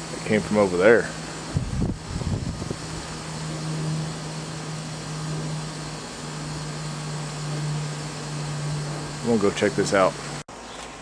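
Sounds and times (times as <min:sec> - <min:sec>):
low mechanical hum: 0:00.0 - 0:11.0
outdoor background noise: 0:00.0 - 0:11.0.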